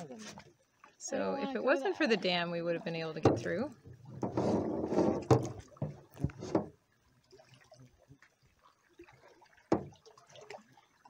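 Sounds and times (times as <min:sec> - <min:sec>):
paddle splashing through water: 0:00.0 - 0:11.0.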